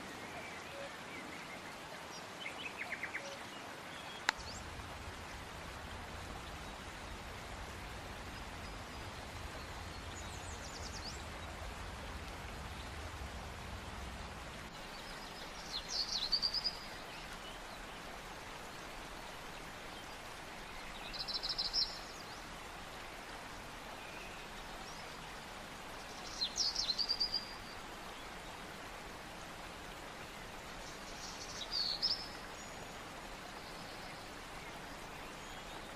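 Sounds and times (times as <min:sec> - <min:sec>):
steady watery hiss: 0:00.0 - 0:35.9.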